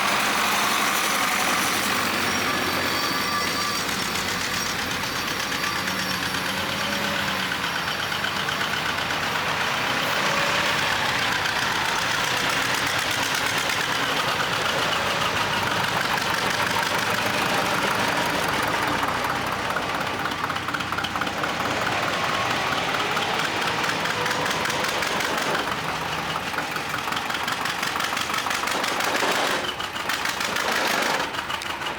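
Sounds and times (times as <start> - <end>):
tractor diesel engines clattering: 0.0 - 31.9.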